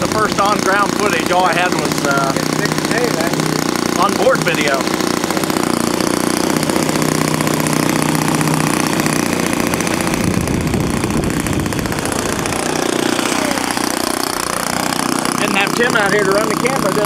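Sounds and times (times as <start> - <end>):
model airplane motor and propeller: 0.0 - 17.0.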